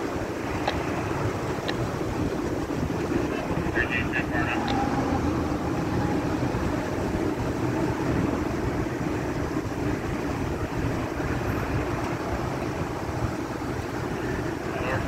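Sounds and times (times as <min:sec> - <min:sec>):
locomotives rumbling: 0:00.0 - 0:15.0.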